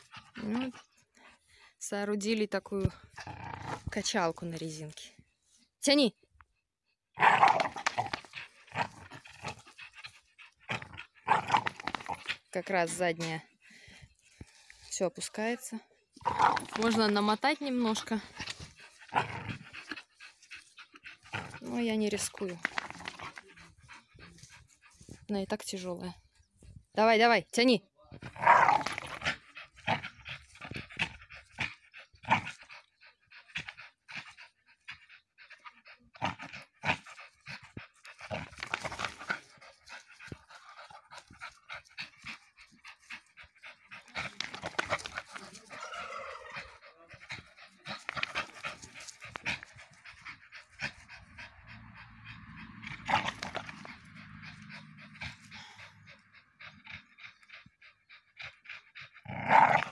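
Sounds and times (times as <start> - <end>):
dog panting hard: 0.0 - 1.9, 8.0 - 14.9, 16.7 - 26.4, 28.9 - 59.9.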